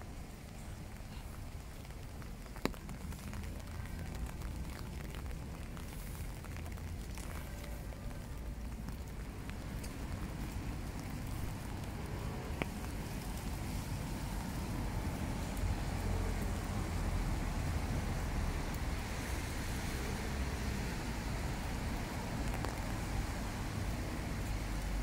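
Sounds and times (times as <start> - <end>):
steady rain on a wet street: 0.0 - 25.0.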